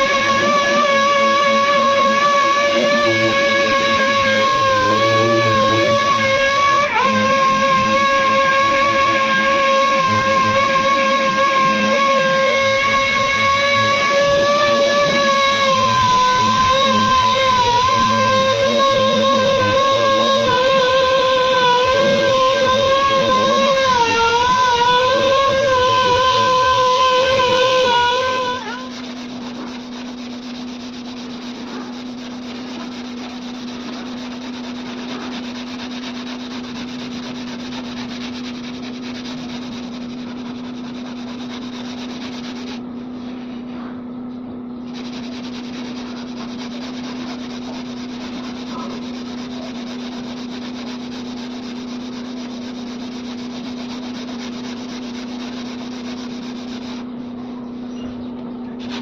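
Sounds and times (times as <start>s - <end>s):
sanding body filler: 0.0s - 43.8s, 44.8s - 57.9s, 58.8s - 59.0s
constant low hum: 0.0s - 59.0s.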